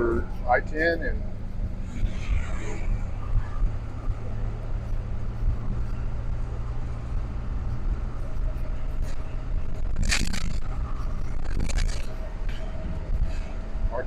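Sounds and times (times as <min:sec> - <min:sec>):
bus engine hum: 0:00.0 - 0:14.0.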